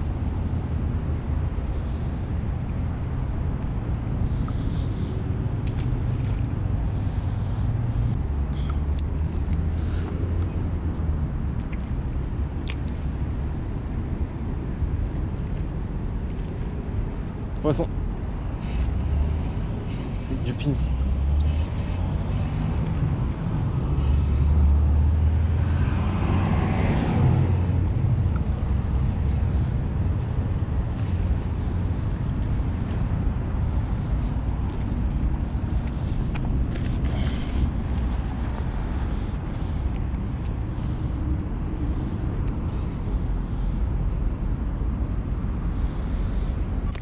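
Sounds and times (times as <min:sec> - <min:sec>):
wind rumbling on microphone: 0:00.0 - 0:47.0.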